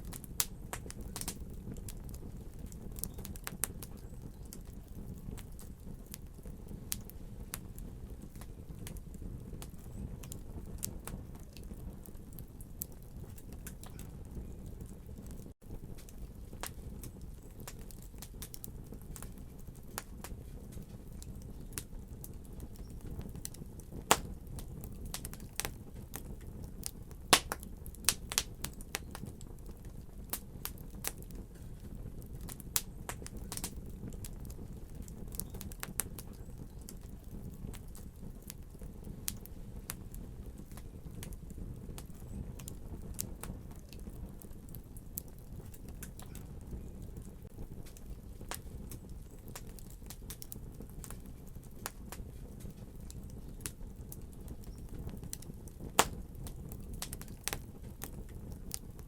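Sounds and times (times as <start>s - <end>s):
crackles and pops of burning logs: 0.0s - 59.0s
fire flames rumbling: 0.0s - 59.0s.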